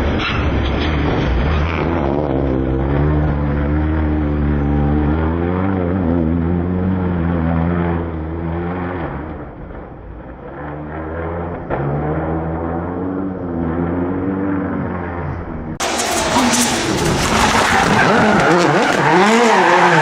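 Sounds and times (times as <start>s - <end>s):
rally car engine running hard: 0.0s - 20.0s.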